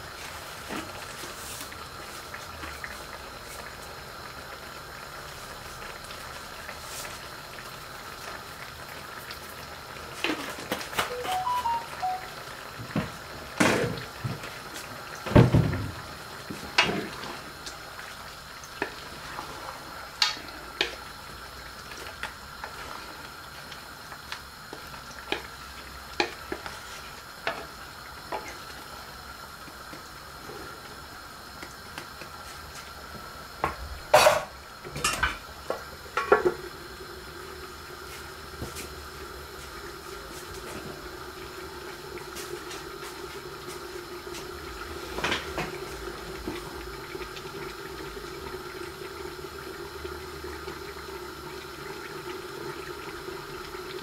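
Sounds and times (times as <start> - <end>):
curry simmering and sizzling: 0.0 - 33.7, 34.5 - 54.0.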